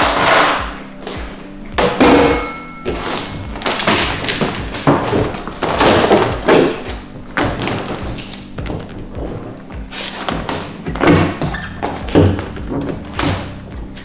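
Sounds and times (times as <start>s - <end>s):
music with thumping beat: 0.0s - 14.0s.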